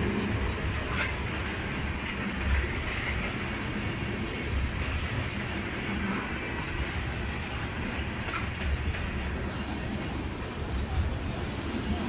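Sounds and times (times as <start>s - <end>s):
steel wheels on rails: 0.0s - 12.0s.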